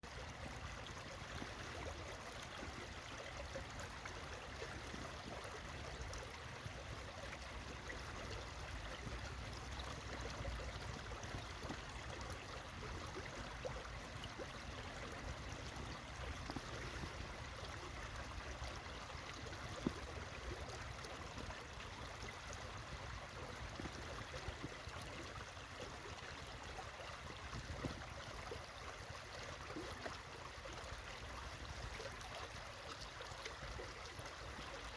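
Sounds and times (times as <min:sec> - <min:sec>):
stream water flowing: 0:00.0 - 0:34.9.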